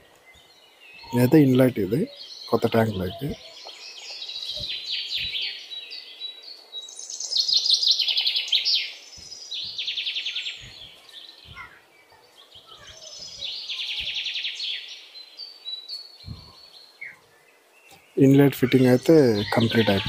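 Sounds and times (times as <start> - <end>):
small bird singing trills: 0.0 - 20.0.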